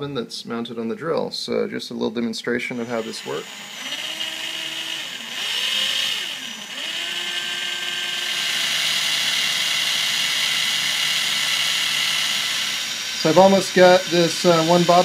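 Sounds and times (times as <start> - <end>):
cordless drill motor whine: 2.7 - 15.0.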